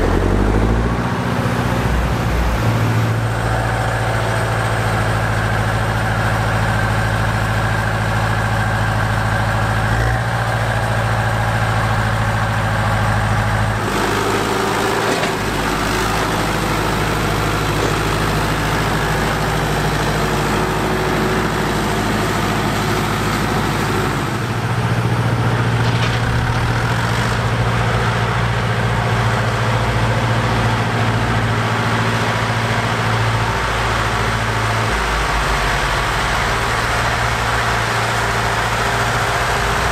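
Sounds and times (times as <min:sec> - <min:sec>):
tractor diesel engines running: 0:00.0 - 0:39.9.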